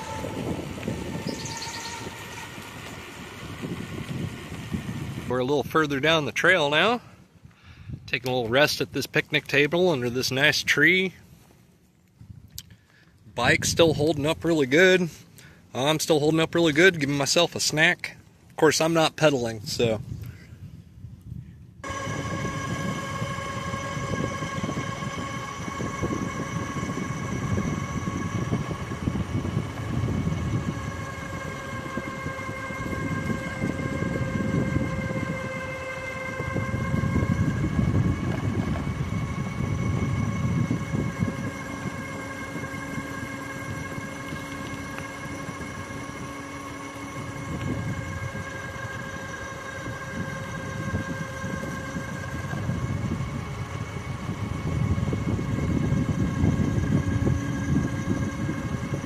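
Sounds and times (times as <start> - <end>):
electric hub motor whining: 0.0 - 7.6, 13.4 - 18.0, 21.8 - 59.0
wind noise on microphone: 0.0 - 11.4, 12.2 - 15.6, 19.5 - 59.0.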